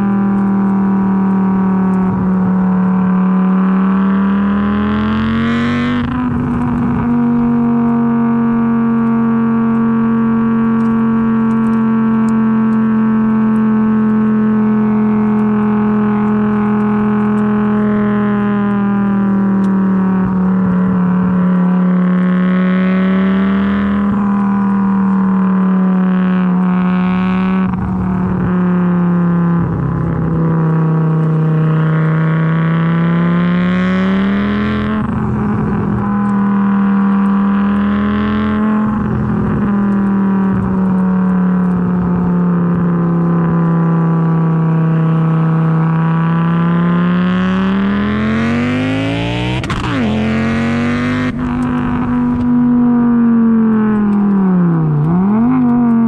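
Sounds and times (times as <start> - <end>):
car exhaust drone: 0.0 - 56.0.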